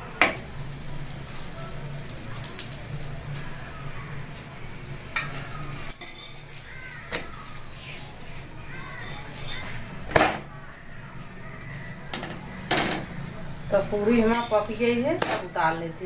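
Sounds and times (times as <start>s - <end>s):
bread sizzling on a griddle: 0.0s - 16.0s.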